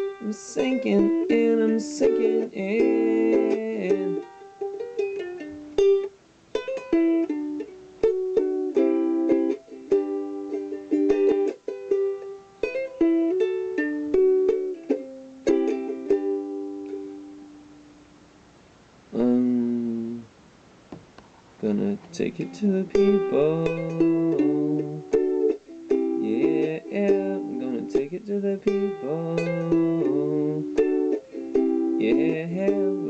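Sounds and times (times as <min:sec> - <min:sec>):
ukulele picked notes: 0:00.0 - 0:18.1, 0:21.7 - 0:33.0.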